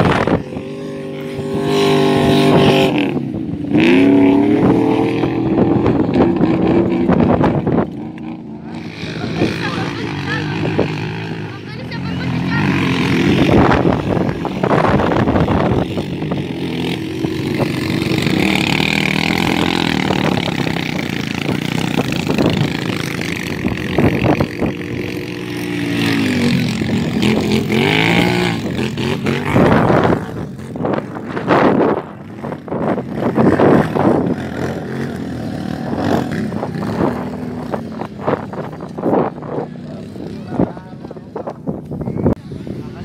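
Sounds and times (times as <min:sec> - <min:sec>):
quad bike engine revving: 0:00.0 - 0:43.0.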